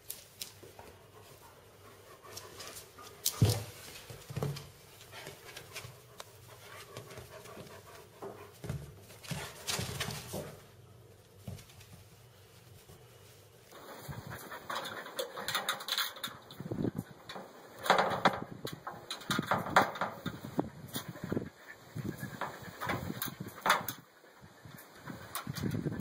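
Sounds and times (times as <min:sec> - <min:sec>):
dog panting and sniffing: 0:00.8 - 0:10.6, 0:13.7 - 0:18.0, 0:18.8 - 0:26.0.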